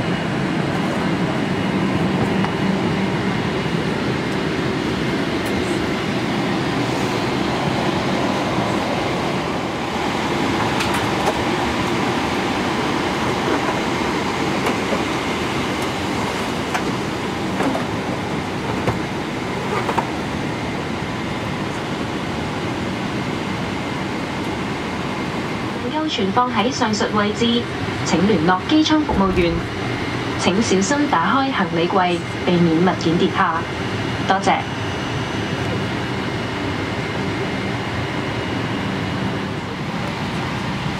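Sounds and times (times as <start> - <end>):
cabin air conditioning rushing: 0.0 - 34.2.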